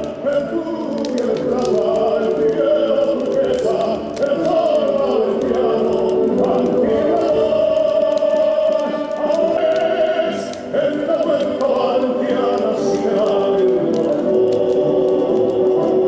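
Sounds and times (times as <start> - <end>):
choir singing long held notes: 0.0 - 16.0.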